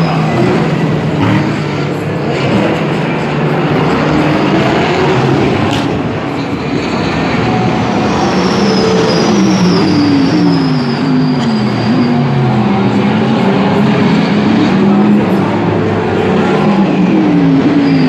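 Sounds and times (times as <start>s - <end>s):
racing car engines running hard: 0.0s - 18.0s.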